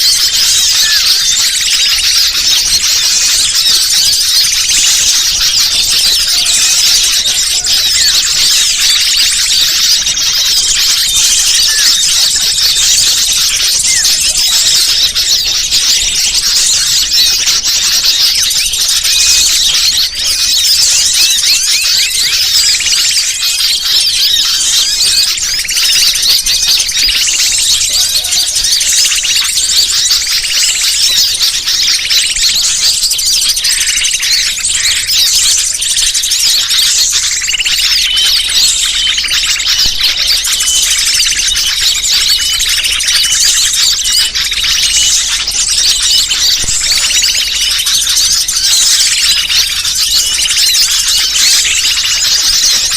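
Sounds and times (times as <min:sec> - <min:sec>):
many small birds chirping and trilling: 0:00.0 - 0:52.9.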